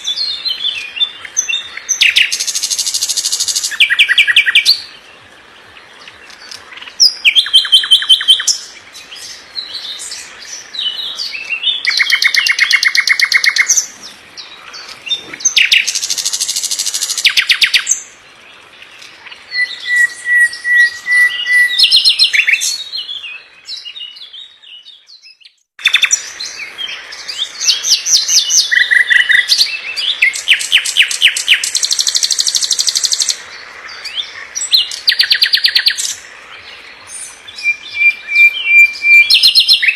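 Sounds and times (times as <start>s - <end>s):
songbird trilling: 0.0s - 5.0s, 6.0s - 18.1s, 18.8s - 24.2s, 25.2s - 39.9s.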